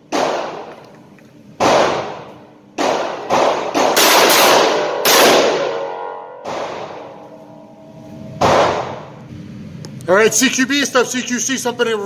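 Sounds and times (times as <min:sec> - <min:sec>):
revolver shots echoing indoors: 0:00.0 - 0:10.0.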